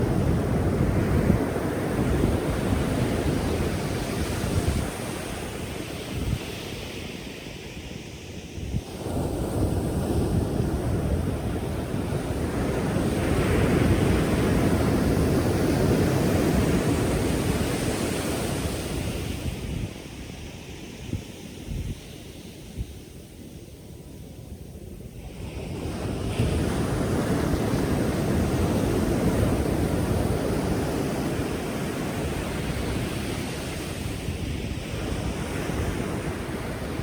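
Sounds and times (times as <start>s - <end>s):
ocean waves breaking: 0.0s - 21.0s, 25.1s - 37.0s.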